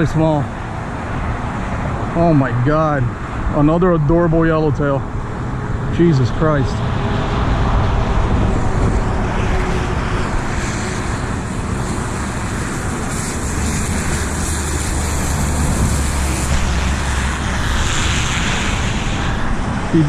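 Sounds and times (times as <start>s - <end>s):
road traffic rumble: 0.0s - 20.0s
vehicle passing by: 0.0s - 20.0s.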